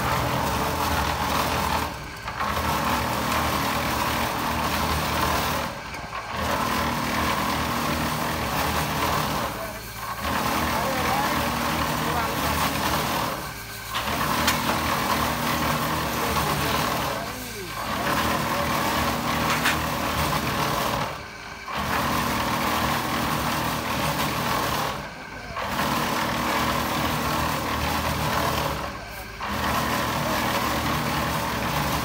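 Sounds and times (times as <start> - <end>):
concrete mixer running: 0.0 - 32.0.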